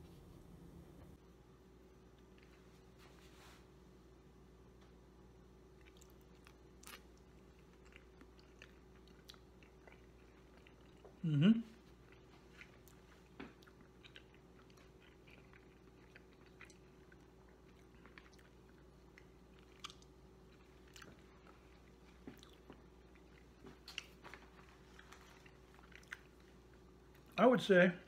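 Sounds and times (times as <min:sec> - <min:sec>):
low room hum: 0:00.0 - 0:28.0
person chewing food: 0:01.9 - 0:02.9, 0:05.6 - 0:27.4.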